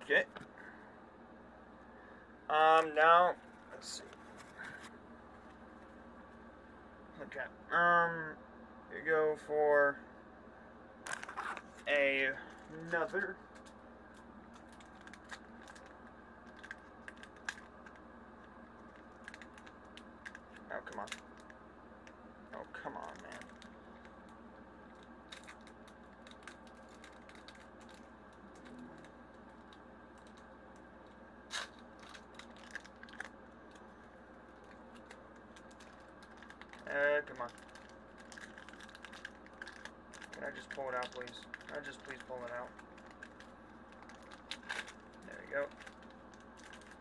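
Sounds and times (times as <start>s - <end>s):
faint steady hum: 0.0s - 47.0s
cards and wrapper crinkling: 2.7s - 5.8s, 11.1s - 47.0s.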